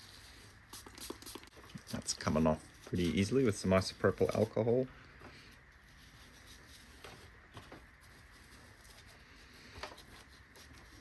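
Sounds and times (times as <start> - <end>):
light clicks and scrapes: 0.8 - 11.0.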